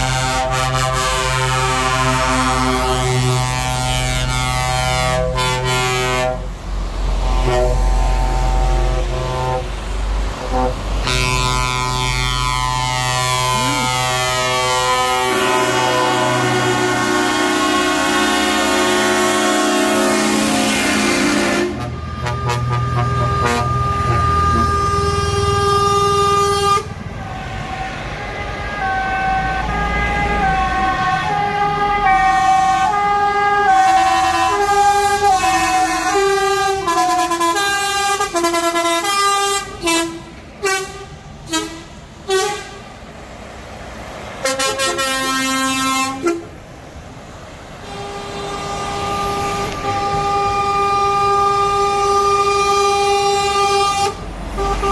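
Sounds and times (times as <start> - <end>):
truck air horns: 0.0 - 43.1, 44.4 - 46.8, 47.7 - 54.9
diesel engine rumble: 0.0 - 54.9.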